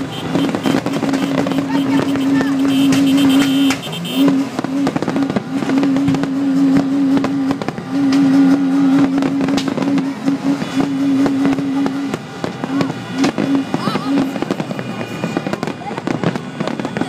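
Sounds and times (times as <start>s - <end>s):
fireworks bangs and crackles: 0.0s - 17.0s
low horn blasts: 0.0s - 17.0s.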